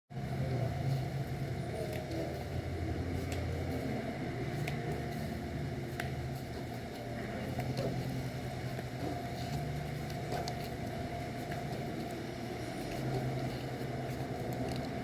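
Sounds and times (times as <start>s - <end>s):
steady low rumble: 0.2s - 15.0s.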